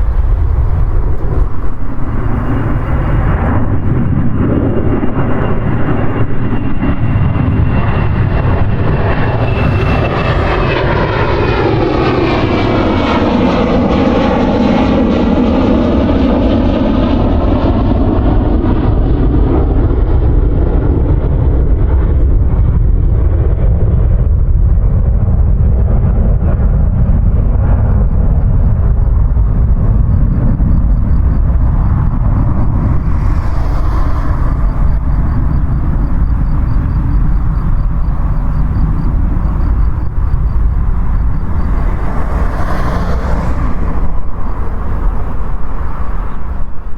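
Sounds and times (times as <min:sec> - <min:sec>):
airplane engine roar: 0:00.0 - 0:46.9
high engine whine: 0:00.0 - 0:46.9.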